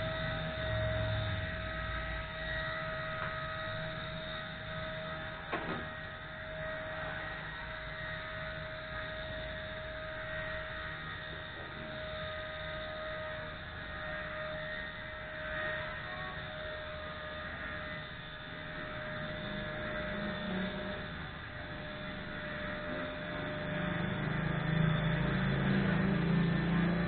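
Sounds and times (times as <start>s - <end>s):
rc helicopter motor whine: 0.0s - 27.0s.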